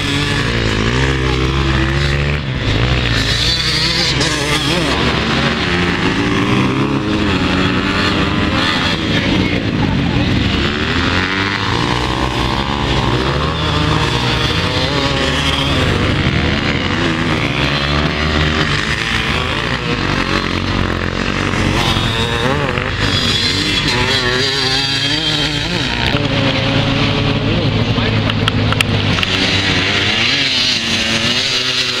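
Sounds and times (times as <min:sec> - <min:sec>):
motocross bikes revving past: 0:00.0 - 0:32.0.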